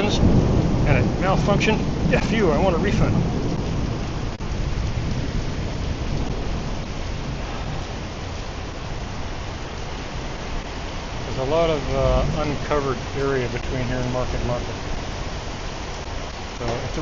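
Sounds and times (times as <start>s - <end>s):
deep rumble: 0.0s - 17.0s
heavy rain pouring: 0.0s - 17.0s.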